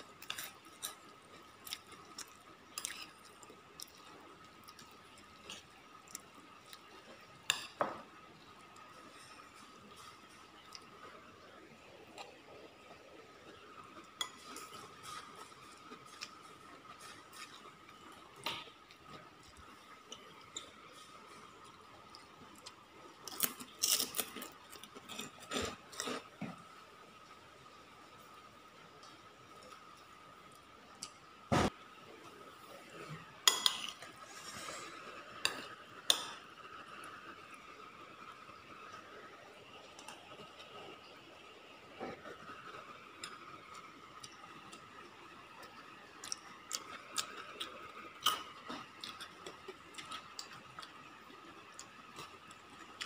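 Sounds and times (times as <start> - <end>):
faint steady high hum: 0.0 - 53.0.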